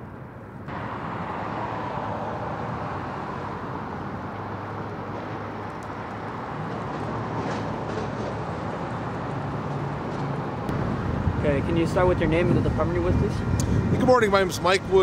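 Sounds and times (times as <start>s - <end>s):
vehicle and road noise: 0.0s - 15.0s.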